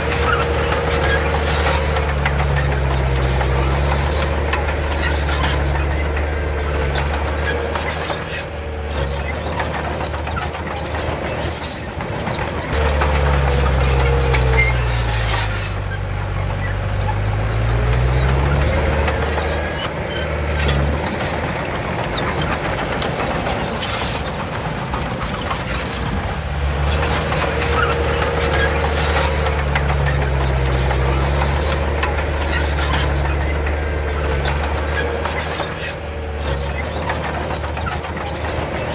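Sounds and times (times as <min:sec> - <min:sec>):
bulldozer diesel engine: 0:00.0 - 0:38.9
steel tracks squealing and clattering: 0:00.0 - 0:38.9.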